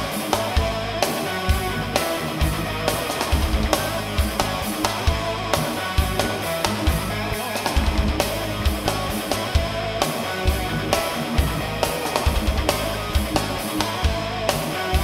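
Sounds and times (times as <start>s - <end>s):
metal band with guitars and drums: 0.0s - 15.0s.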